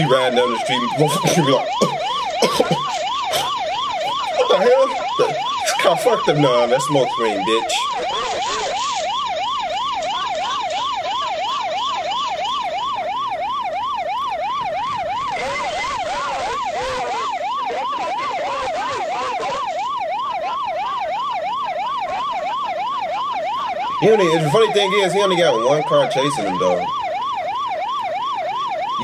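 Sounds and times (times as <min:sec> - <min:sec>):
police siren wailing: 0:00.0 - 0:29.0.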